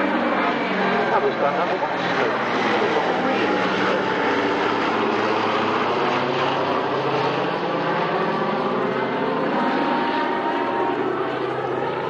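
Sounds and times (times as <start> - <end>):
propeller bomber flying past: 0.0 - 12.0.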